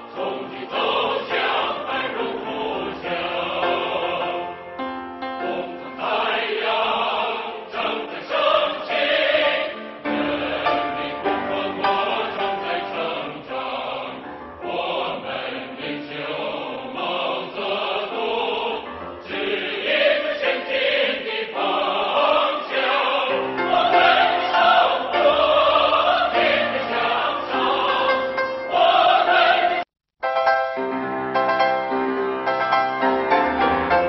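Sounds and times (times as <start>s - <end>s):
choir singing: 0.0s - 29.9s.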